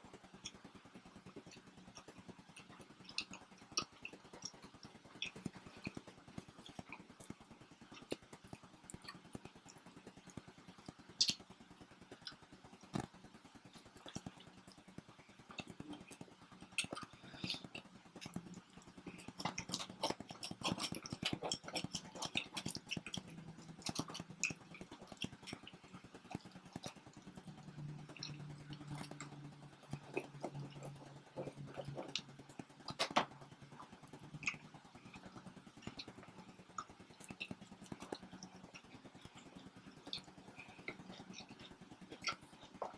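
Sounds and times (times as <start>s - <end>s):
chewing and biting pizza: 1.2s - 42.9s.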